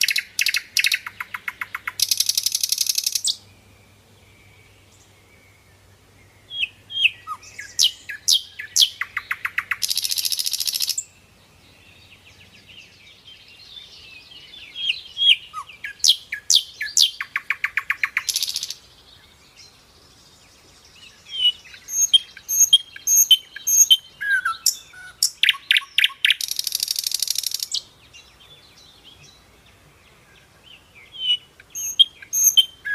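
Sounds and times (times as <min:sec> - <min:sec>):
birds singing: 0:00.0 - 0:32.9.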